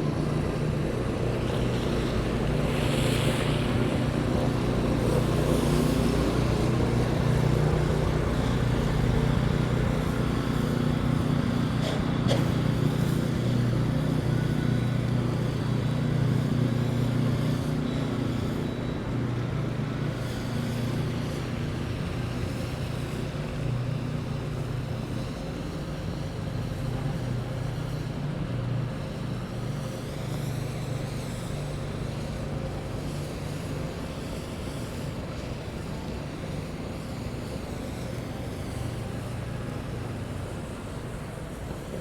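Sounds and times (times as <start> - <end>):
street noise: 0.0 - 42.0
vehicle engine hum: 0.0 - 42.0.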